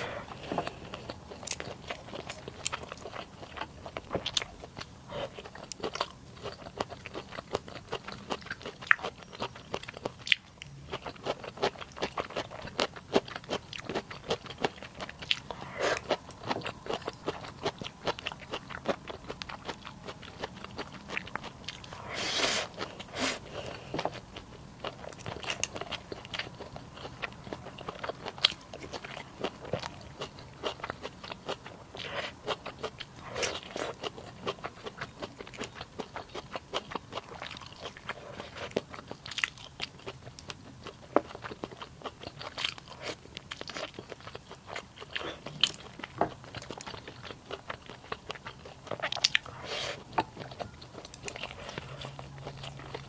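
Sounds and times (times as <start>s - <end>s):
person chewing and biting: 0.0s - 53.0s.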